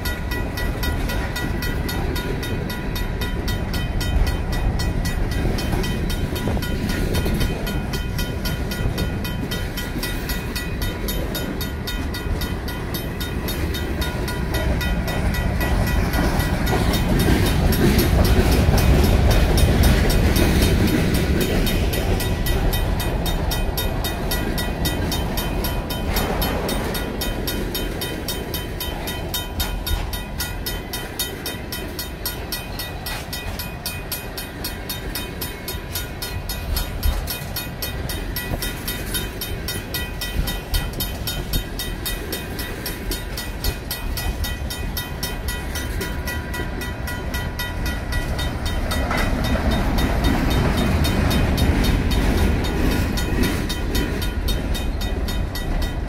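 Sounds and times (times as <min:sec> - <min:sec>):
crossing bell ringing: 0:00.0 - 0:56.0
freight train wheels rumbling: 0:00.0 - 0:56.0.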